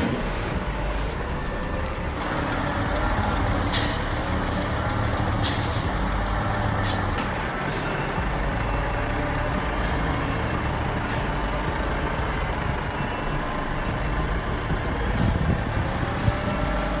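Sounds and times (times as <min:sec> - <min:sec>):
air brakes hissing: 0:00.0 - 0:14.0
truck engine rumbling: 0:00.0 - 0:17.0.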